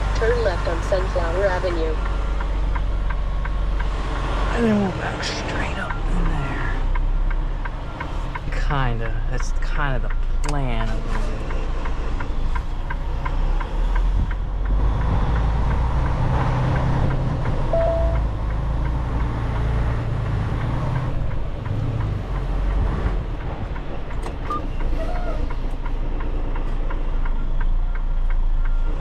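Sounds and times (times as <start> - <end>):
diesel truck engine rumbling: 0.0 - 29.0.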